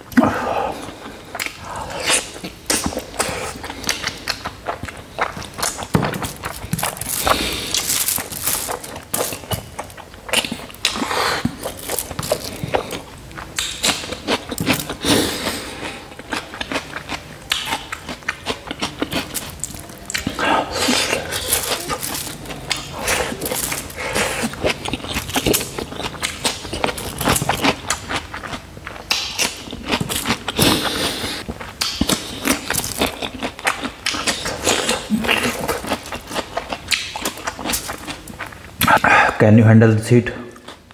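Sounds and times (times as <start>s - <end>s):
wet chewing and lip-smacking: 0.8s - 39.0s.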